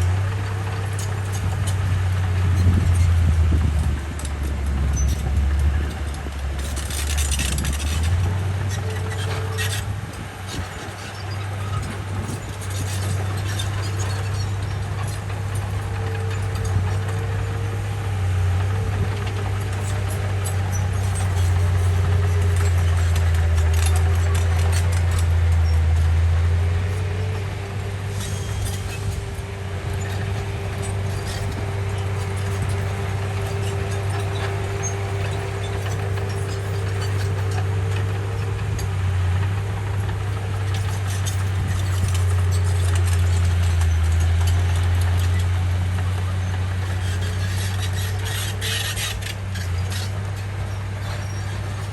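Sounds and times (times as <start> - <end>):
bulldozer diesel engine running: 0.0 - 51.9
light clicks and clanks: 0.4 - 18.0, 18.6 - 26.2, 26.8 - 51.9.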